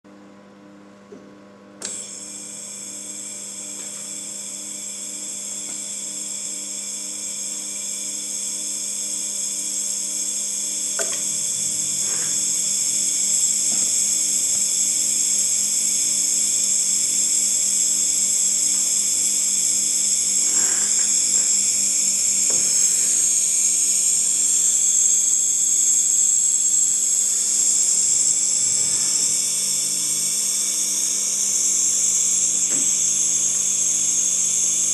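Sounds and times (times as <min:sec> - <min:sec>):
compressor whining: 0:01.0 - 0:34.9.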